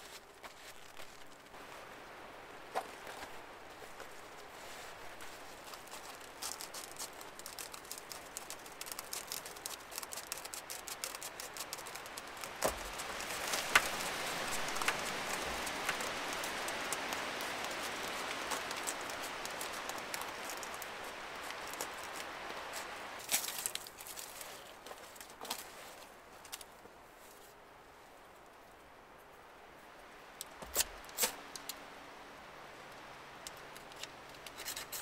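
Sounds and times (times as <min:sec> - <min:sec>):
kindling crackling: 0:00.0 - 0:26.8, 0:30.2 - 0:35.0.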